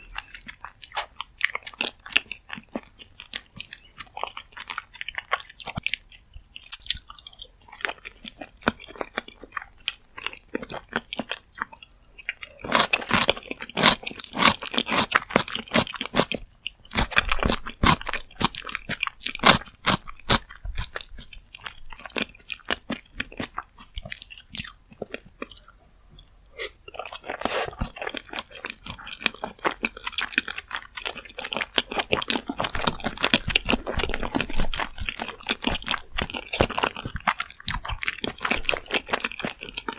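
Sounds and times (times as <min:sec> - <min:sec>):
person chewing and slurping: 0:00.2 - 0:39.9.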